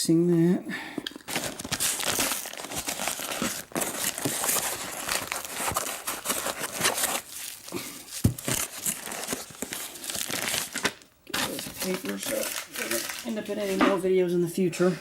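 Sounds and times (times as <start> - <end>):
paper crumpling and tearing: 1.3 - 13.9.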